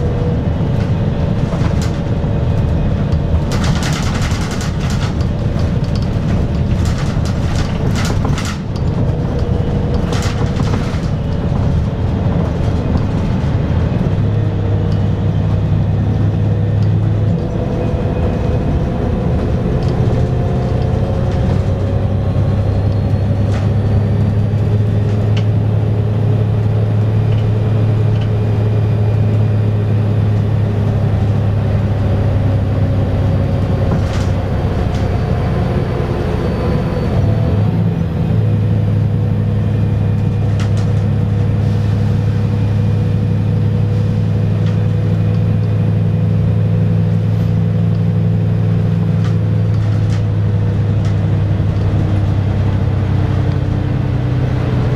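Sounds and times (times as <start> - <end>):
bus diesel engine drone: 0.0 - 54.9.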